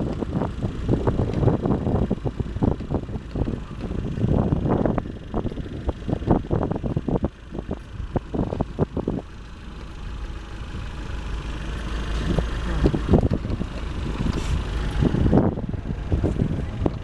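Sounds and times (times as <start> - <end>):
wind buffeting microphone: 0.0 - 9.5, 10.1 - 17.0
vehicle engine idling: 0.0 - 17.0.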